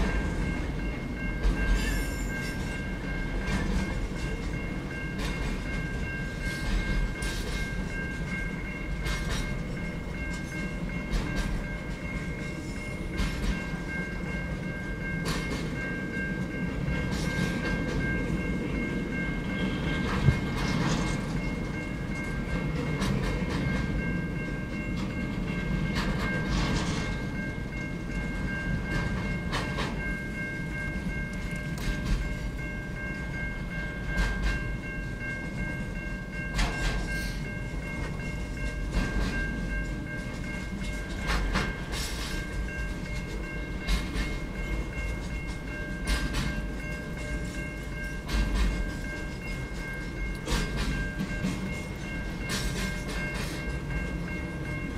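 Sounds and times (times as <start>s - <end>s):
freight train rumble: 0.0s - 54.9s
wheels clacking on rails: 0.0s - 54.9s.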